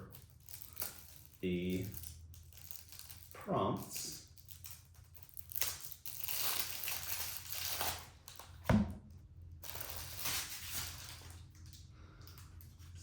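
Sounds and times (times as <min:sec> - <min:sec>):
packaging crinkling and tearing: 0:00.0 - 0:08.7, 0:09.5 - 0:13.0.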